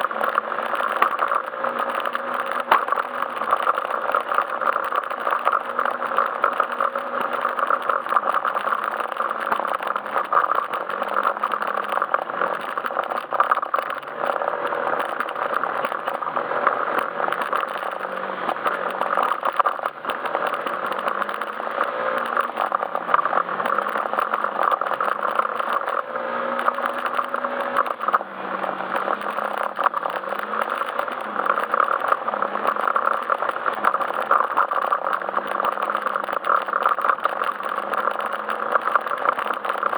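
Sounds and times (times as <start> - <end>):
road and wind noise: 0.0 - 39.9
scooter engine running: 0.0 - 39.9.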